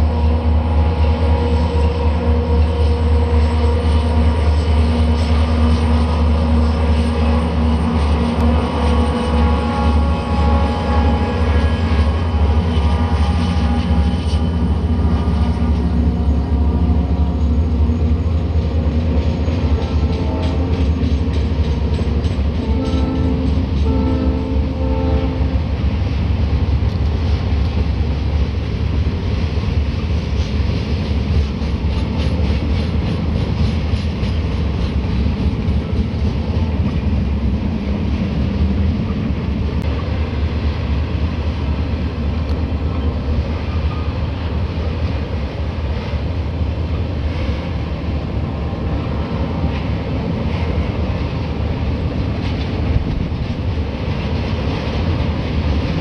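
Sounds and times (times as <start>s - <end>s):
low diesel engine drone: 0.0s - 56.0s.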